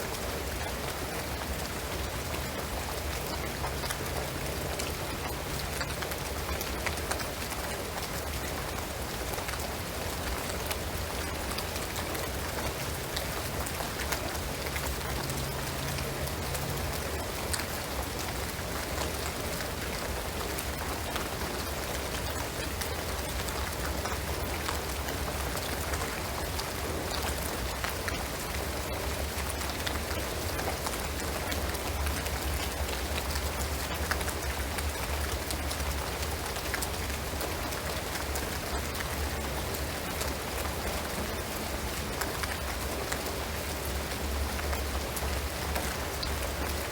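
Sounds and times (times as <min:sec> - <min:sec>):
rain on a roof and trees: 0:00.0 - 0:46.9.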